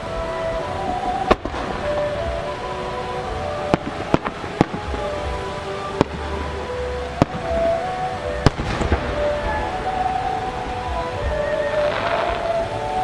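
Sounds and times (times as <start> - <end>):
background music: 0.0 - 13.0
firework crackle: 0.0 - 13.0.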